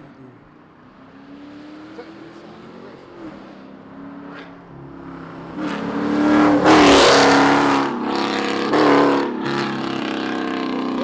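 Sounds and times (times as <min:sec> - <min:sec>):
car engine revving: 0:00.8 - 0:11.0.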